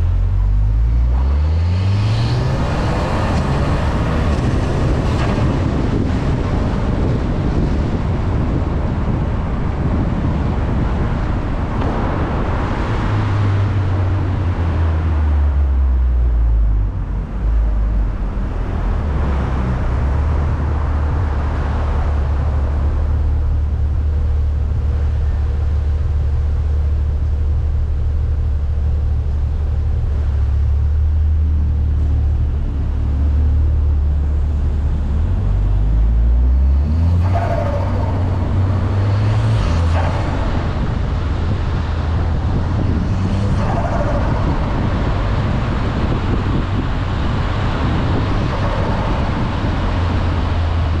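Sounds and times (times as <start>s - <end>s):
car engine drone: 0.0s - 51.0s.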